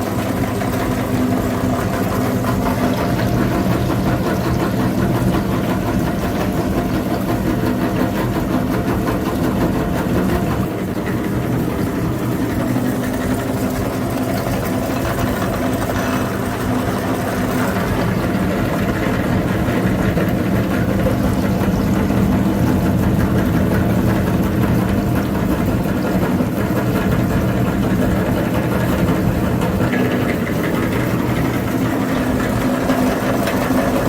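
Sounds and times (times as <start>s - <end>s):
tractor engine running: 0.4s - 34.0s.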